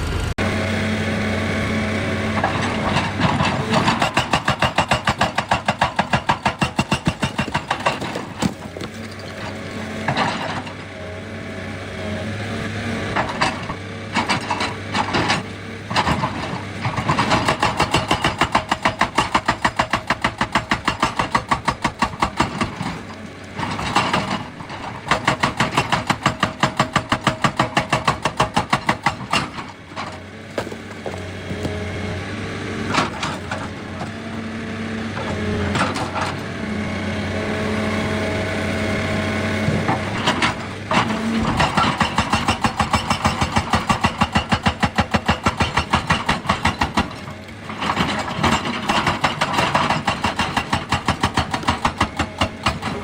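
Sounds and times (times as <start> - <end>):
diesel engine running: 0.0 - 18.8, 28.8 - 53.0
hydraulic rock breaker hammering: 2.3 - 10.9, 13.0 - 34.2, 39.2 - 53.0.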